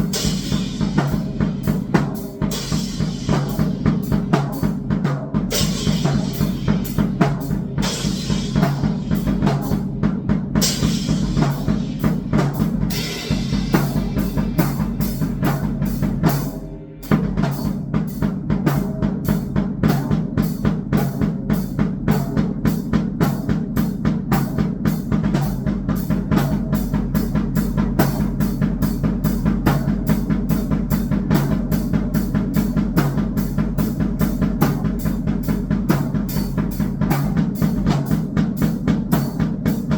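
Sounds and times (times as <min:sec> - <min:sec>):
drum kit playing fast: 0:00.0 - 0:39.9.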